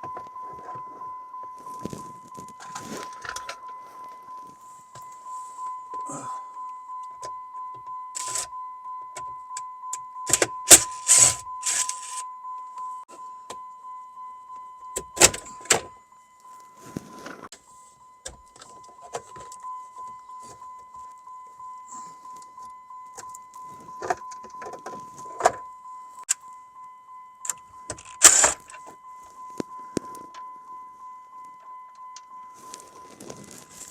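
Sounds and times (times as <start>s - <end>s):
steady high electronic beep: 0.0s - 16.7s, 17.6s - 33.1s.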